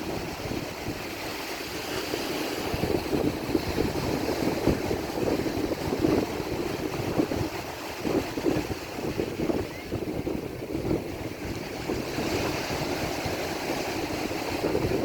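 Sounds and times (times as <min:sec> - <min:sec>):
ocean waves breaking on shore: 0:00.0 - 0:15.0
wind buffeting microphone: 0:00.0 - 0:15.0.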